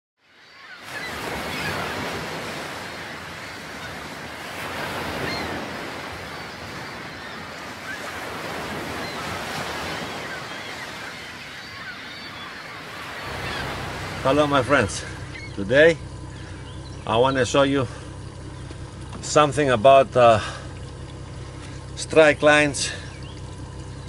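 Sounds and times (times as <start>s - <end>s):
wind: 0.2s - 24.0s
waves washing: 0.3s - 24.0s.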